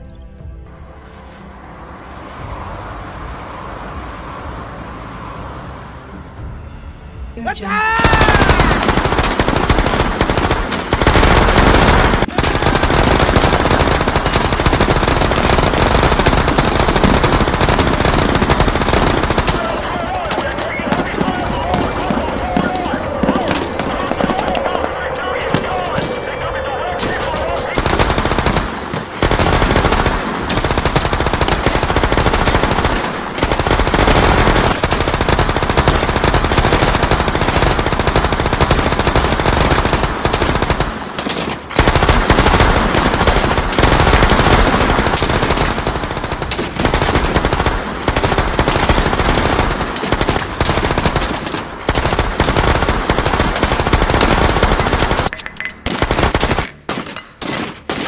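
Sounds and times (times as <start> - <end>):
machine-gun and rifle fire: 8.0 - 26.3, 27.0 - 58.0.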